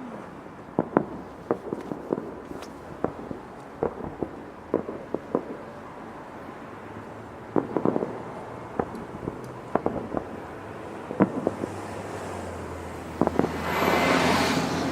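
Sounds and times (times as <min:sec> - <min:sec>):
steady background noise: 0:00.0 - 0:14.9
fireworks popping and cracking: 0:00.6 - 0:06.1, 0:07.4 - 0:14.9.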